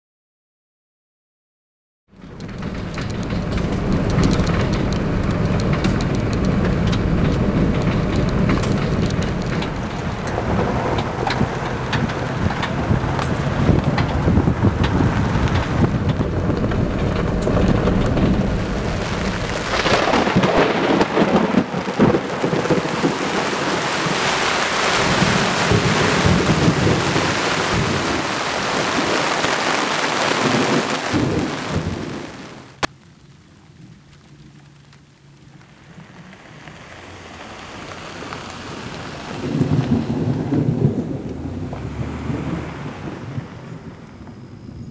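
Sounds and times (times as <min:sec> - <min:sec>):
heavy rain: 0:02.1 - 0:44.9
thunder rumbling: 0:02.1 - 0:44.9.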